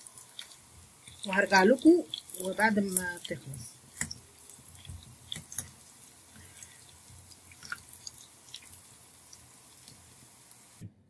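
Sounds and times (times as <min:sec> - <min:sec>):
hot oil sizzling: 0:00.0 - 0:10.8
oil popping and crackling: 0:00.0 - 0:10.8.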